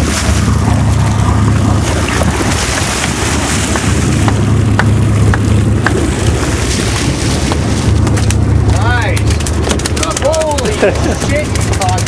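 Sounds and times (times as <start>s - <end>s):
boat engine running: 0.0s - 12.0s
sea wash: 0.0s - 12.0s
wind noise on microphone: 0.0s - 12.0s.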